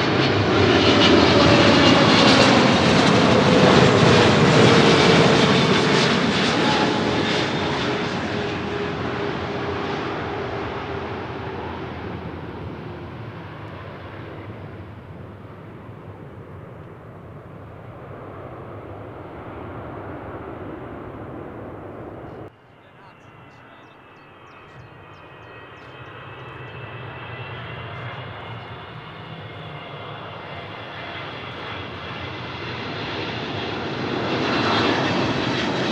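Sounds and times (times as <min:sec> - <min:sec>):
jet airliner engines passing: 0:00.0 - 0:35.9.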